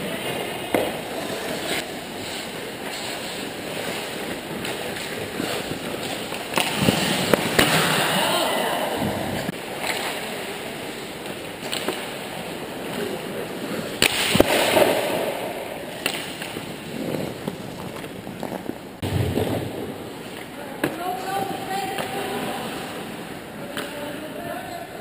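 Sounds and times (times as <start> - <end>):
skates scraping on ice: 0.0 - 24.5
hockey sticks and puck clacking: 0.0 - 24.6.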